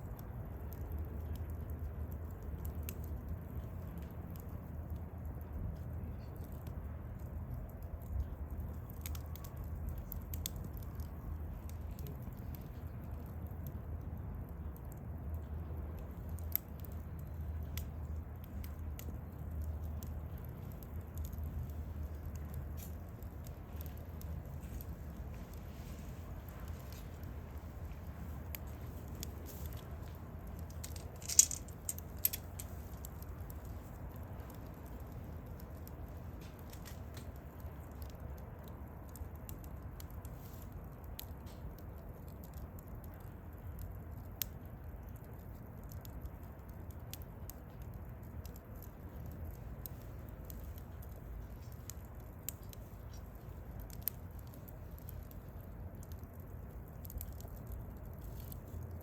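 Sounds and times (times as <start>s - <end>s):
campfire crackling and popping: 0.0s - 59.0s
low fire rumble: 0.0s - 59.0s.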